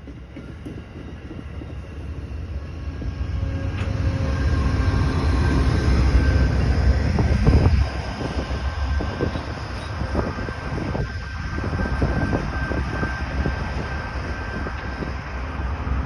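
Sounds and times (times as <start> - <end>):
diesel locomotive drone: 0.0 - 16.0
passenger train rumbling past: 0.0 - 16.0.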